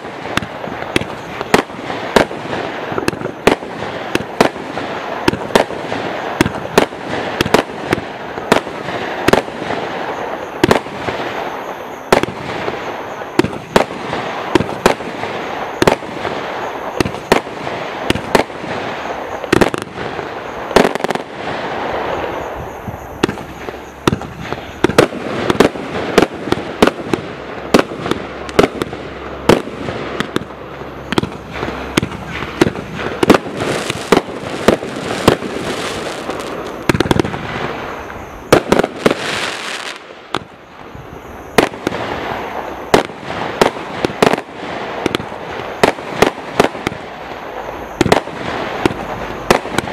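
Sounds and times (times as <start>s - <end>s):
firework launches and bangs: 0.0s - 40.6s
firework crackling hiss: 0.0s - 49.9s.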